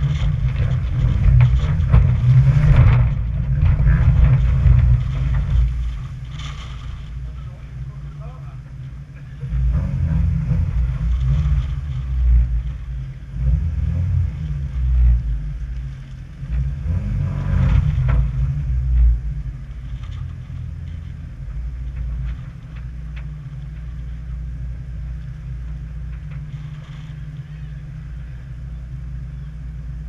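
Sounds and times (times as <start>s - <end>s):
off-road vehicle engine rumbling: 0.0s - 30.0s.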